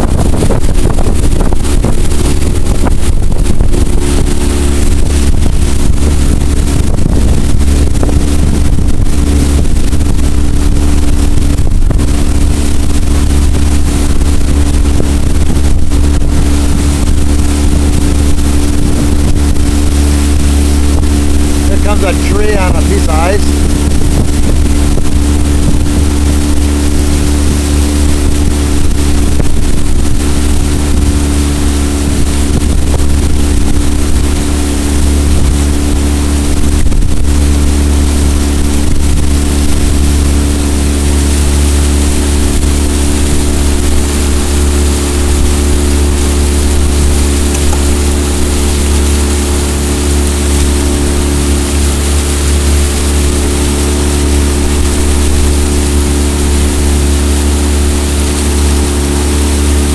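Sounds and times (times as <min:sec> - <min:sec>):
outboard motor droning: 0:00.0 - 0:59.9.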